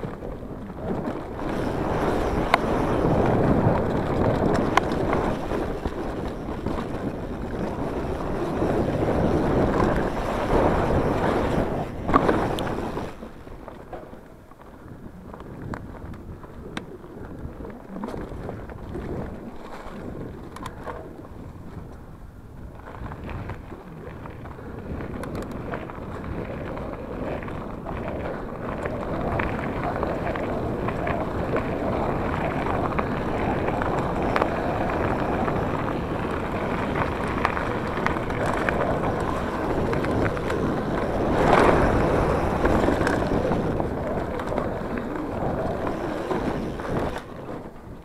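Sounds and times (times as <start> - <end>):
bike rattling over bumps: 0.0 - 48.0
tyres rolling on dirt: 0.0 - 48.0
wind buffeting microphone: 0.0 - 48.0.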